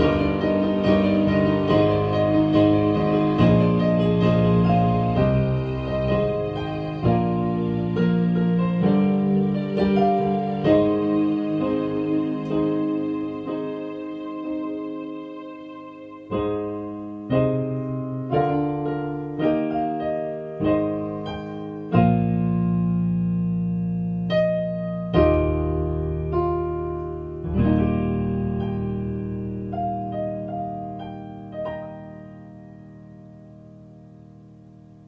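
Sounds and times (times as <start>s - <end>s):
solo piano chords: 0.0s - 35.0s.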